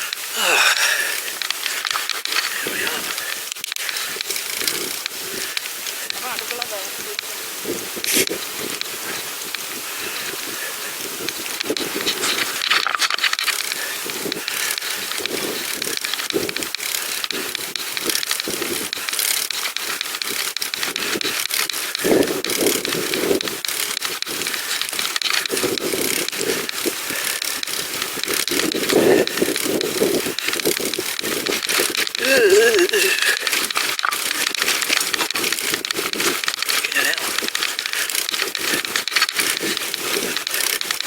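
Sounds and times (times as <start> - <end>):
bicycle crackling and scraping: 0.0 - 41.0.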